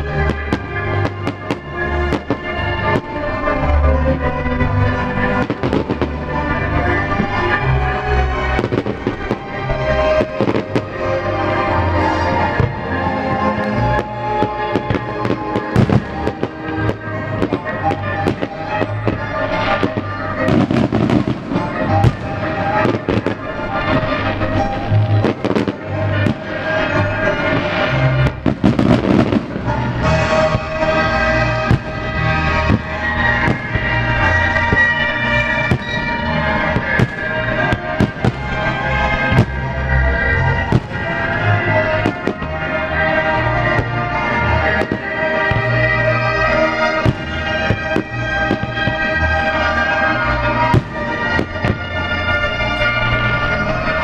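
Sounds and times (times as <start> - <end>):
firework bangs and crackling: 0.0 - 54.0
music: 0.0 - 54.0.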